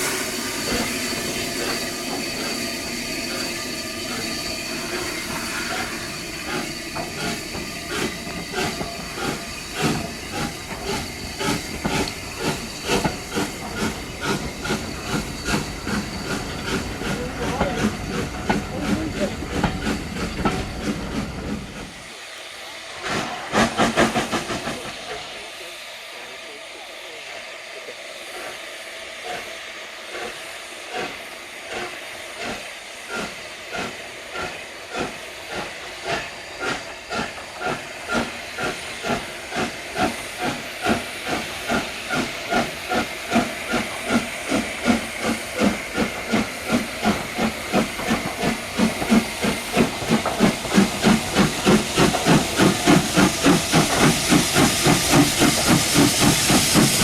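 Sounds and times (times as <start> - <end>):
hiss of steam: 0.0 - 57.0
steam locomotive exhaust beats: 0.0 - 57.0.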